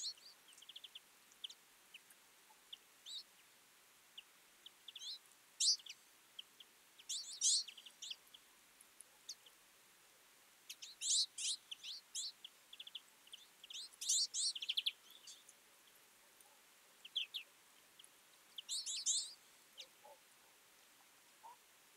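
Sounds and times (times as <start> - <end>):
flock of birds twittering: 0.0 - 3.5, 4.1 - 9.6, 10.7 - 20.6, 21.4 - 21.6.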